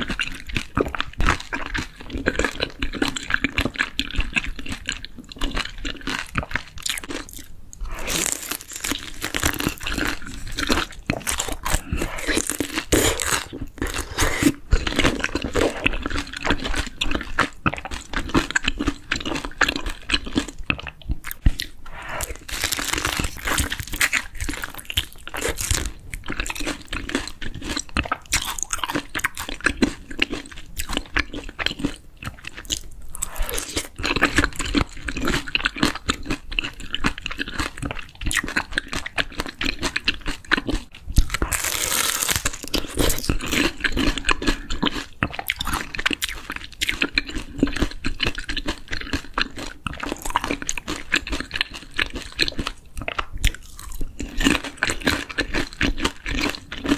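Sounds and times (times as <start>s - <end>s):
crunchy chewing: 0.0s - 56.9s.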